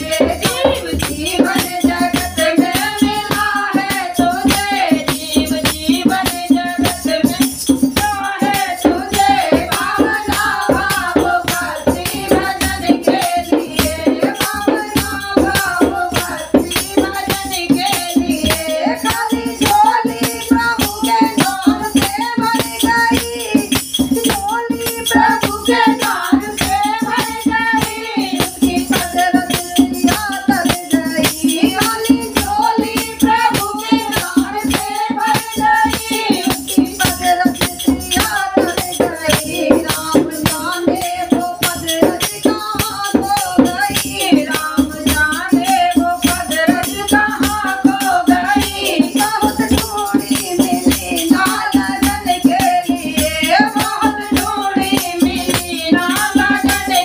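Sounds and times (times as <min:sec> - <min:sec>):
hand cymbals clashing: 0:00.0 - 0:57.0
hand drum: 0:00.0 - 0:57.0
women singing together: 0:00.0 - 0:57.0.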